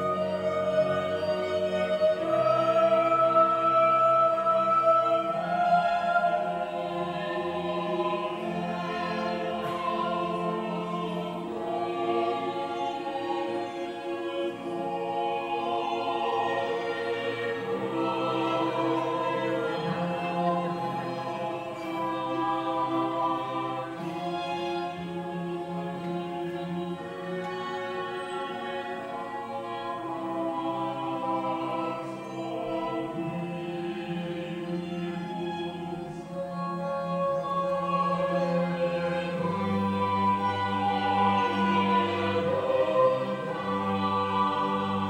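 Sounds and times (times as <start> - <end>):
choir singing sustained chords: 0.0 - 45.0.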